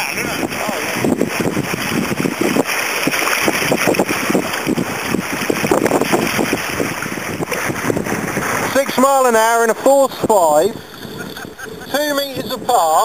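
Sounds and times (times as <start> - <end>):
water splashing along hull: 0.0 - 13.0
wind buffeting microphone: 0.0 - 13.0.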